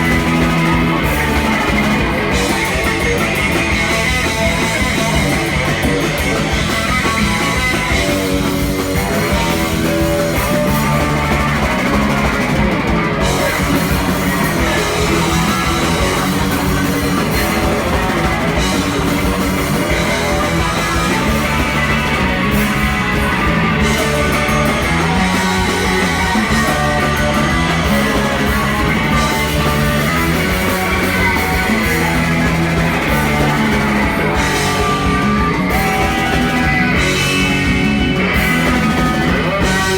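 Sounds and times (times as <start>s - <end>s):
live punk rock band: 0.0s - 39.9s.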